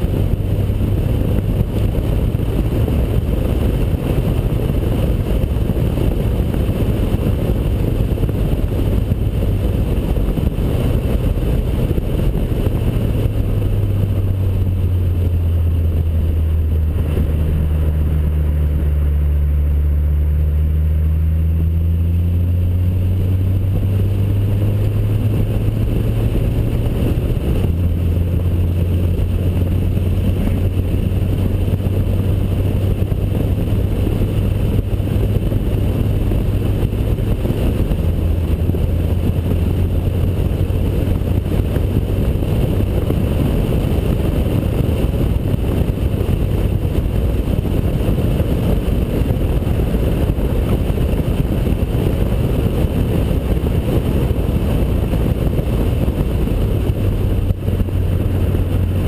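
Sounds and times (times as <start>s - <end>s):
car engine drone: 0.0s - 59.0s
road noise: 0.0s - 59.0s
wind noise: 0.0s - 59.0s.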